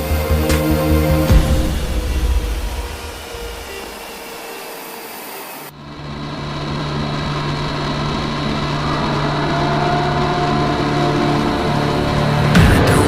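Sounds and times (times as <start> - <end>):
jet engine rush: 0.0 - 13.0
low jet engine drone: 0.0 - 13.0.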